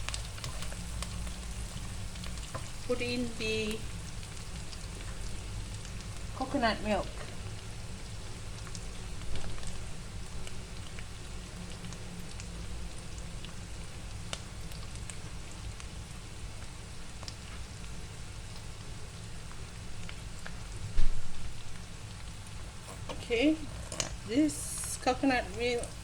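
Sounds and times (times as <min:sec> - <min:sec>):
paste sizzling in a pan: 0:00.0 - 0:20.9, 0:21.5 - 0:26.0.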